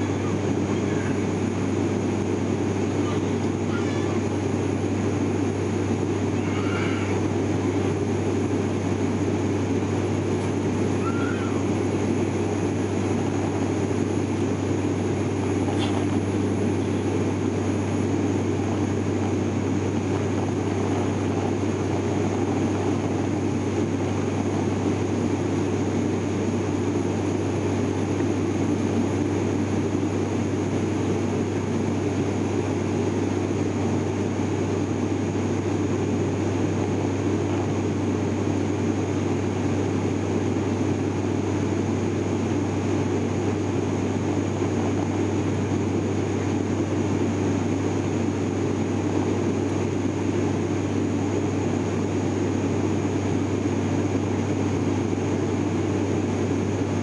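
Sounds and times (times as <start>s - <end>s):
propeller engines humming: 0.0s - 57.0s
rush of air noise: 0.0s - 57.0s.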